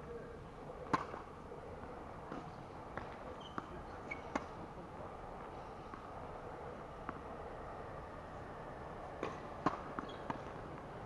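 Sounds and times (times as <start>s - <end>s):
tennis balls hit and bouncing: 0.7s - 11.0s.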